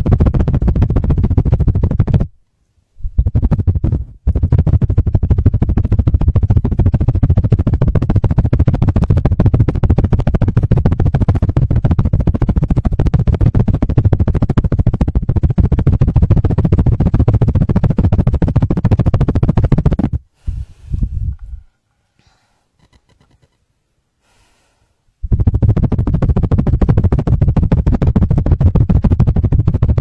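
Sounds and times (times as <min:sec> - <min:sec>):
rubbing and tapping on microphones: 0:00.0 - 0:02.4, 0:03.0 - 0:21.7, 0:22.8 - 0:23.6, 0:25.2 - 0:30.0.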